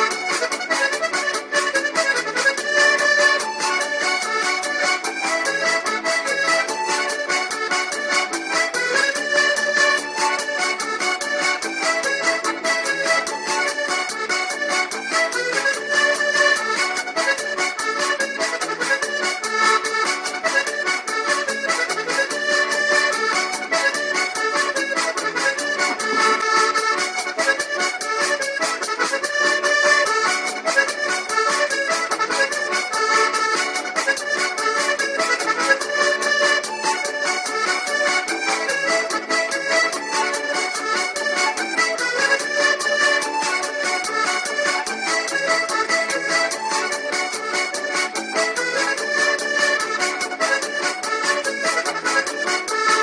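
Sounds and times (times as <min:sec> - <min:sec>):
fast high ticking rhythm: 0:00.0 - 0:53.0
held accordion-like chords: 0:00.0 - 0:53.0.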